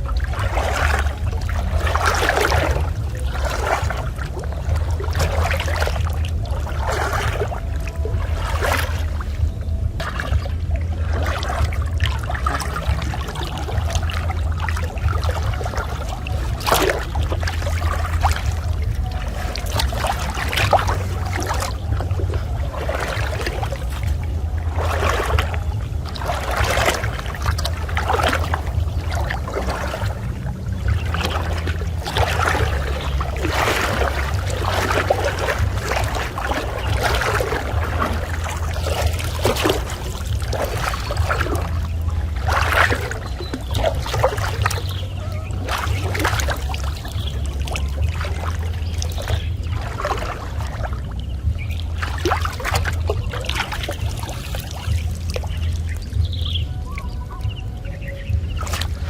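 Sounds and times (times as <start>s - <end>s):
steady low rumble: 0.0s - 59.0s
water splashing and sloshing: 0.0s - 59.0s.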